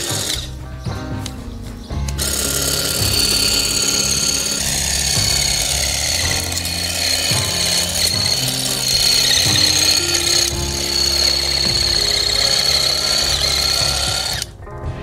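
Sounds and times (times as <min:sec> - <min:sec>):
grass shear cutting grass: 0:00.0 - 0:14.5.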